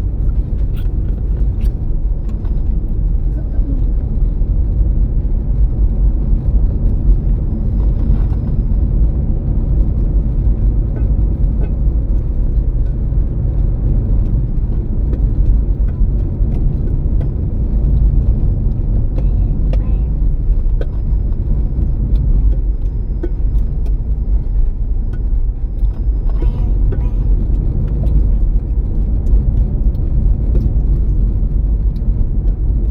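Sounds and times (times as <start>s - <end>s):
car road rumble inside cabin: 0.0s - 32.9s.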